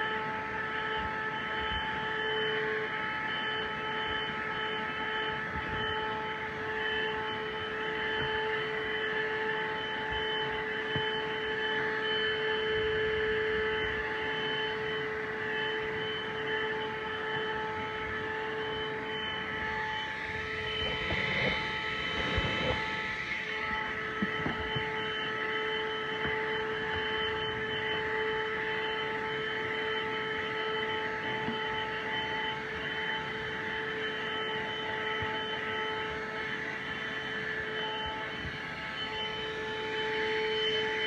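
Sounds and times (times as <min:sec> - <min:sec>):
handheld vacuum running: 0:00.0 - 0:41.0.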